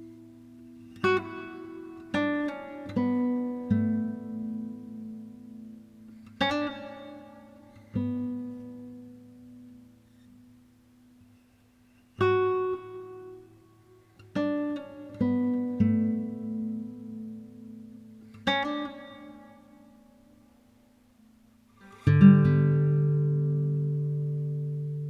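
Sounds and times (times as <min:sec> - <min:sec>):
slow solo guitar: 0:00.0 - 0:25.0.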